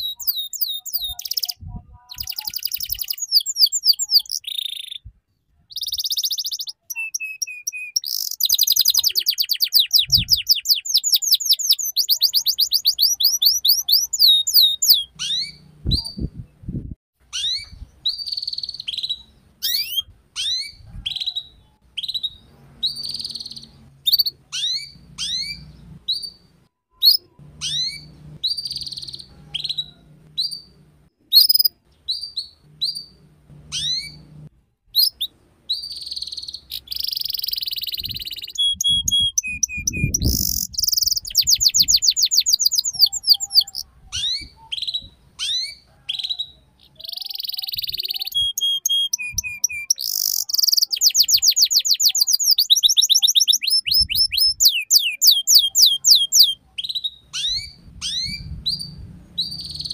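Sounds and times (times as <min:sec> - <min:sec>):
canary singing: 0:00.0 - 0:16.6, 0:17.2 - 0:59.9.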